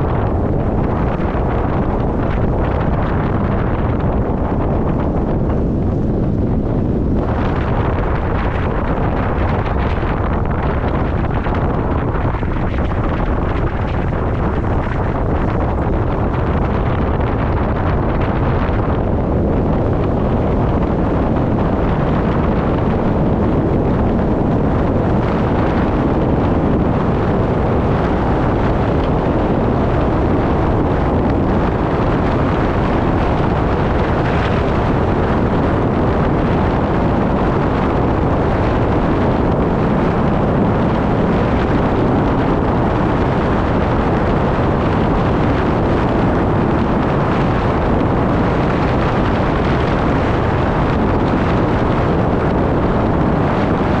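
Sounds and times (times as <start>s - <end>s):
vehicle road and wind noise: 0.0s - 54.0s.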